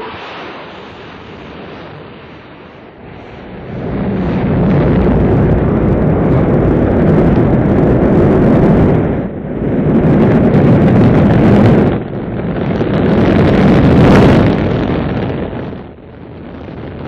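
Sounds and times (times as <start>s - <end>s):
rocket engines roaring: 0.0s - 17.0s.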